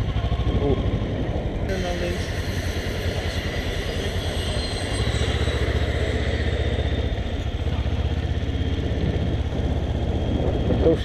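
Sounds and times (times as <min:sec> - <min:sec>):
motorcycle engine at low revs: 0:00.0 - 0:04.3, 0:05.0 - 0:11.0.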